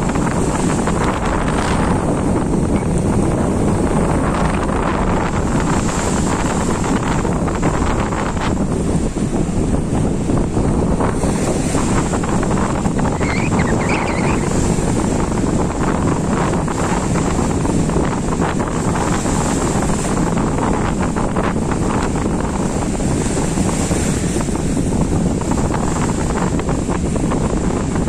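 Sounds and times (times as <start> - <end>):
sea surf breaking on beach: 0.0 - 28.0
wind buffeting microphone: 0.0 - 28.0.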